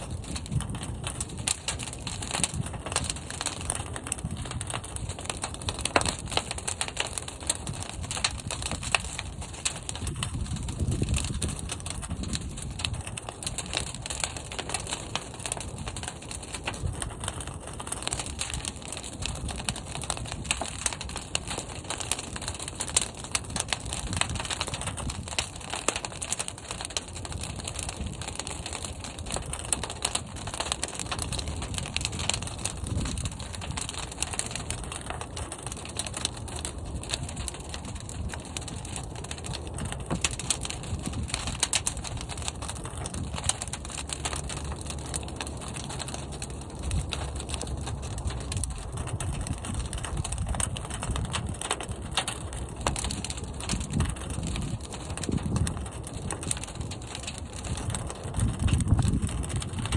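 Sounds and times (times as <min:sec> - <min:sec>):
fire roaring and crackling in kiln: 0:00.0 - 0:59.9.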